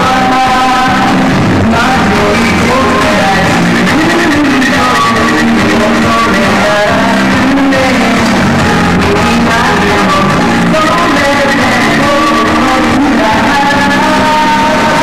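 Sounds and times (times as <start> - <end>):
muffled distorted pop music: 0.0 - 15.0.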